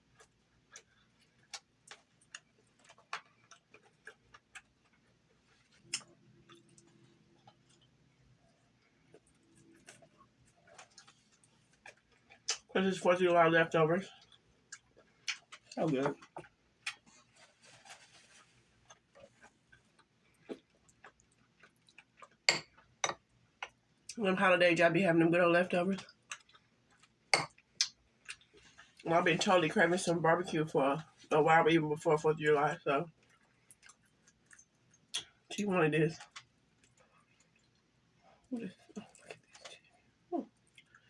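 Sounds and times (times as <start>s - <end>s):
close chewing with mouth clicks: 0.0s - 12.8s, 14.1s - 24.2s, 26.0s - 29.1s, 33.1s - 35.5s, 36.2s - 41.0s.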